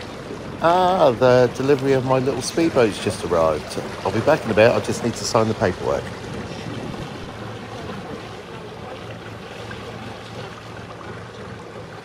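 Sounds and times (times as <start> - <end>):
motor boat engine humming: 0.0 - 12.0
water wash: 0.0 - 12.0.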